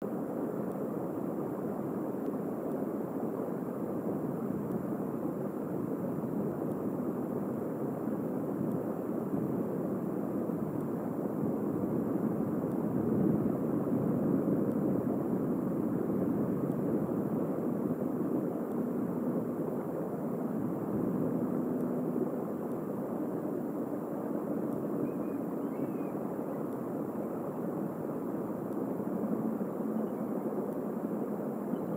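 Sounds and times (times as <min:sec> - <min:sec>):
wind rumble on microphone: 0:00.0 - 0:31.9.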